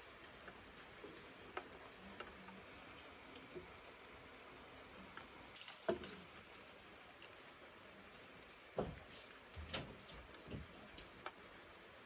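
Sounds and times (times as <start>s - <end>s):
light rain hiss: 0.0s - 12.0s
raindrops ticking and pattering: 0.0s - 12.0s.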